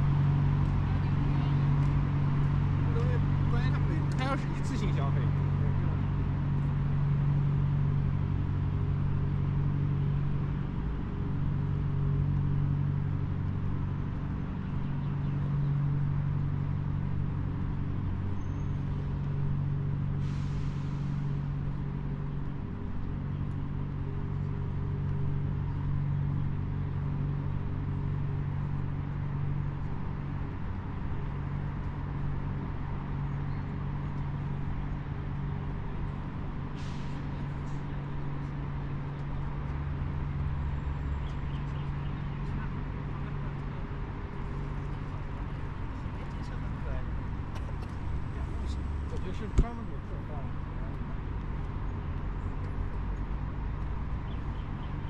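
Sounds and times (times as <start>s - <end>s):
city background noise: 0.0s - 55.0s
low engine drone: 0.0s - 55.0s.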